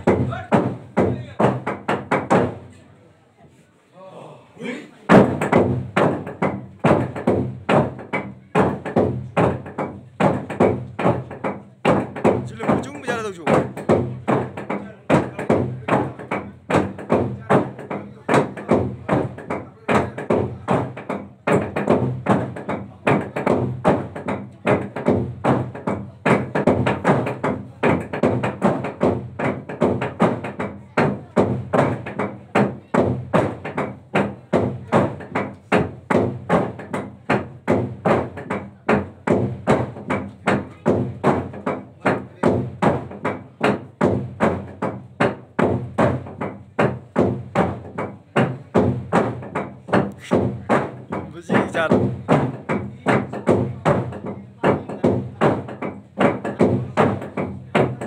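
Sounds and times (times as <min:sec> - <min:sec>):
wooden log drum knocks: 0:05.1 - 0:58.0.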